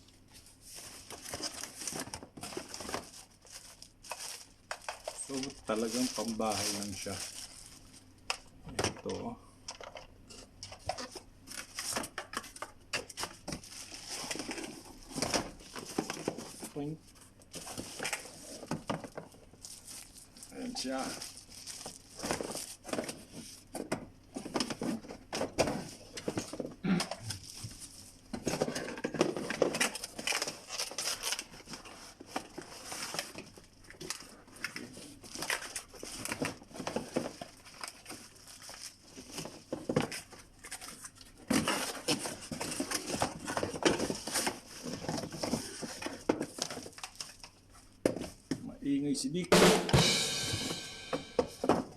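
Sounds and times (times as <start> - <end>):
packaging rustling and crinkling: 0.0 - 48.6.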